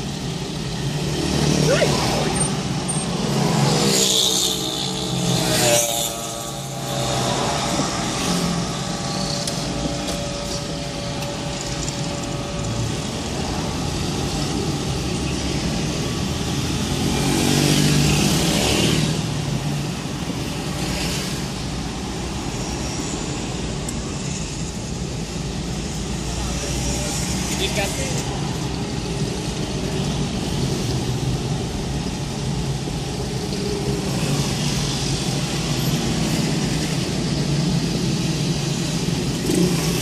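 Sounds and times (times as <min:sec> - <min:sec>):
slow road traffic: 0:00.0 - 0:40.0.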